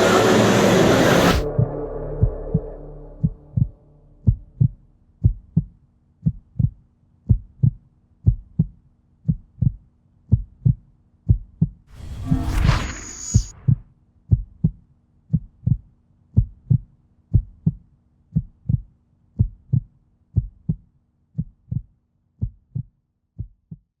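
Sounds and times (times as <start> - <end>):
heartbeat thumps: 1.4 - 11.8, 14.3 - 23.9.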